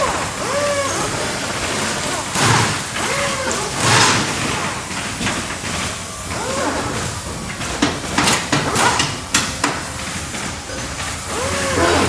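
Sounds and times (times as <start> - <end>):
machinery din: 0.0 - 12.0.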